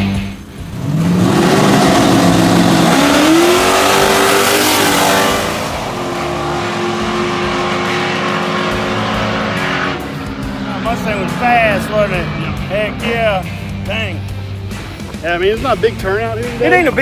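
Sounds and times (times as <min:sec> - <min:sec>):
drag car engines revving: 0:00.0 - 0:17.0.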